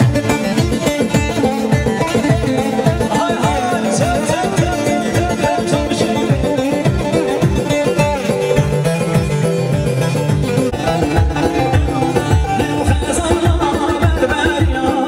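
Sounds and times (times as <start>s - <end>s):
plucked string melody: 0.0s - 15.0s
steady drum beat: 0.0s - 15.0s.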